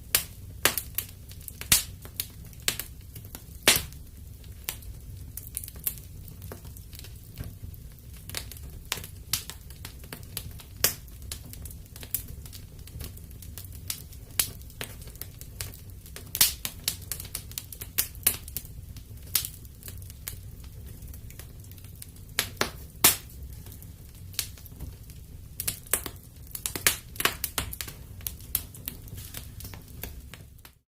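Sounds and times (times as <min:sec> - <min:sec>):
wood fire crackling and popping: 0:00.0 - 0:30.8.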